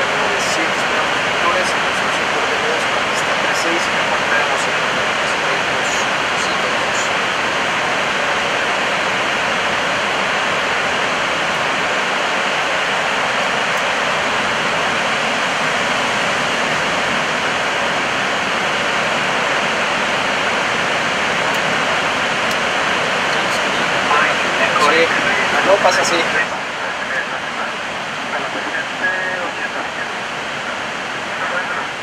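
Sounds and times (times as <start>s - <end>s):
cockpit airflow roar: 0.0s - 32.0s.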